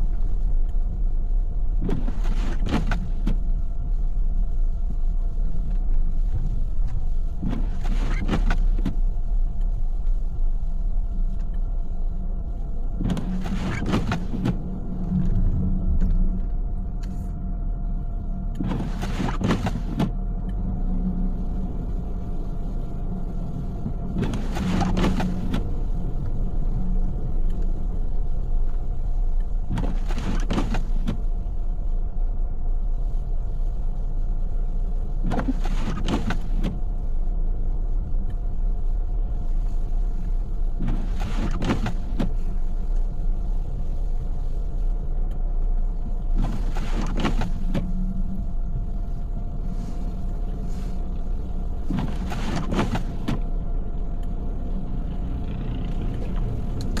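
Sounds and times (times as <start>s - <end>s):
car engine and road rumble: 0.0s - 57.0s
windshield wipers swishing: 0.2s - 17.3s, 18.4s - 57.0s.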